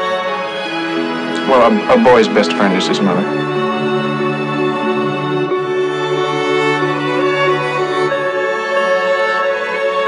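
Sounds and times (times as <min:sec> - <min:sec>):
slow string music: 0:00.0 - 0:10.0.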